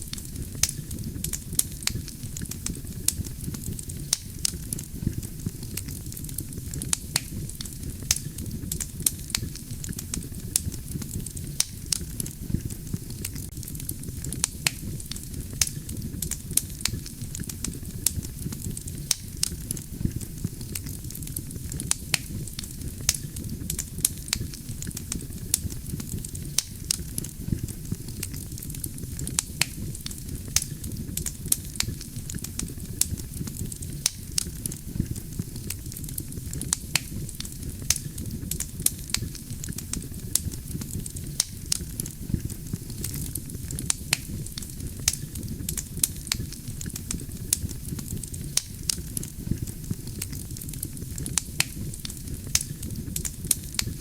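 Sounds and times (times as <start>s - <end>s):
fire crackling and popping: 0.0s - 54.0s
wood fire rumbling: 0.0s - 54.0s.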